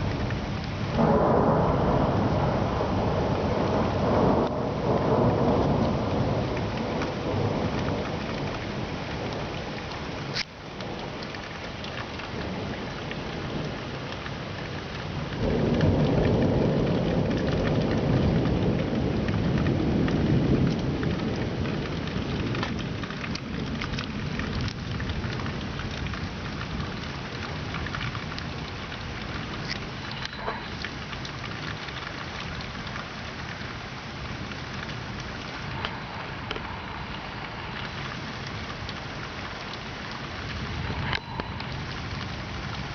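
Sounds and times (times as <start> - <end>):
rain falling: 0.0 - 42.9
rolling thunder: 0.0 - 42.9.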